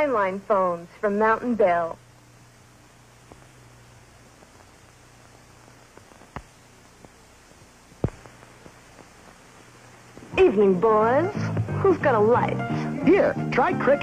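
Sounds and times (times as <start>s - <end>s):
recording hiss and hum: 0.0s - 14.0s.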